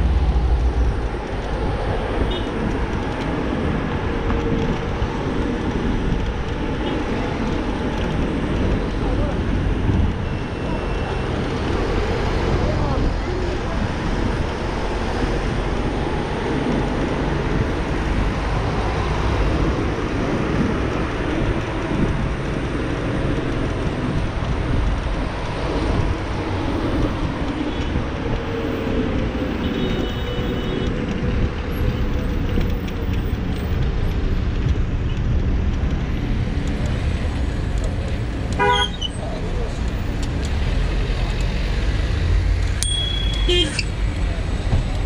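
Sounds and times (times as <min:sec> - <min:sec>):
wind rumble on microphone: 0:00.0 - 0:38.6.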